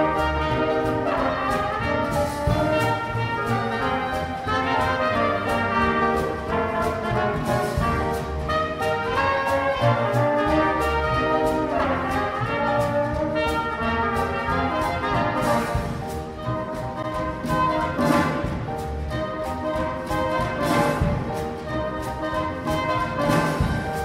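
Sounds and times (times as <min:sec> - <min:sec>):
small jazz band playing: 0:00.0 - 0:24.0.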